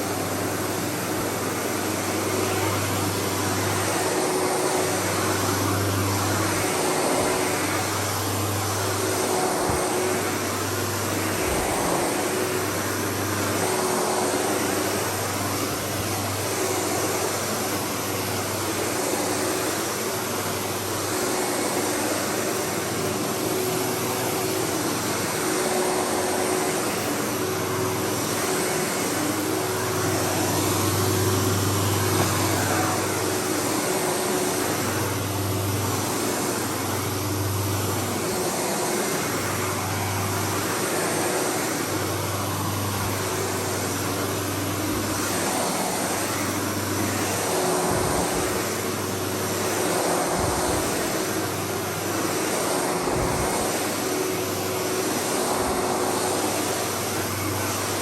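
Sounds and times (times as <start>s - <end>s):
upright vacuum running: 0.0s - 58.0s.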